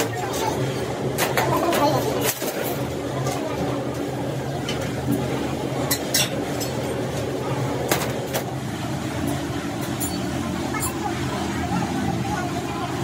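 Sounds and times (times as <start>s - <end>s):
factory machinery hum: 0.0s - 13.0s.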